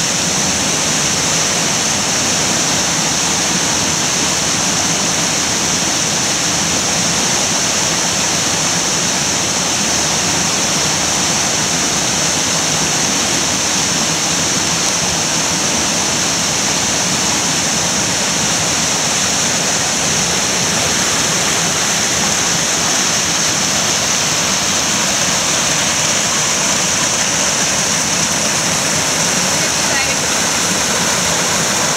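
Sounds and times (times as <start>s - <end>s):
creek water rushing over rocks: 0.0s - 31.9s.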